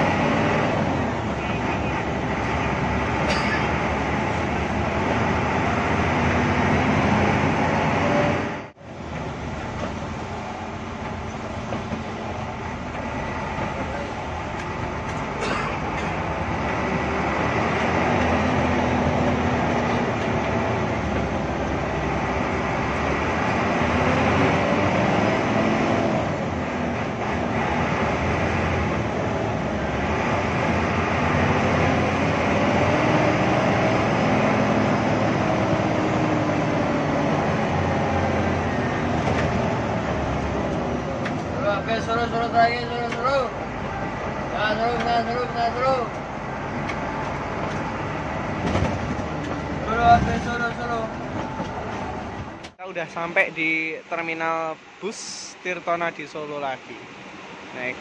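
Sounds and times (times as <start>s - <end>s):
bus diesel engine running: 0.0s - 58.0s
road noise: 0.0s - 58.0s.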